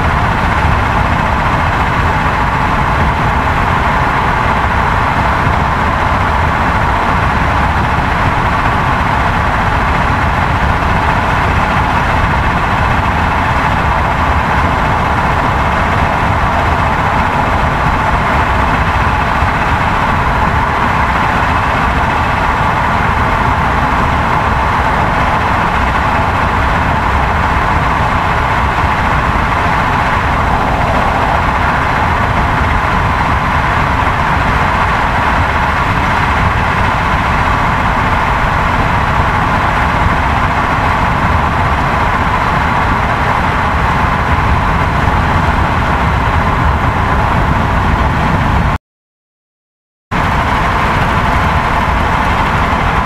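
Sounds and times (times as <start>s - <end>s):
loud engine drone: 0.0s - 48.8s, 50.2s - 53.0s.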